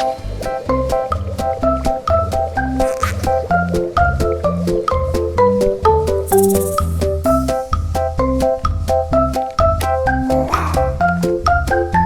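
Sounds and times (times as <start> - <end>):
keyboard melody with beat: 0.0 - 12.0.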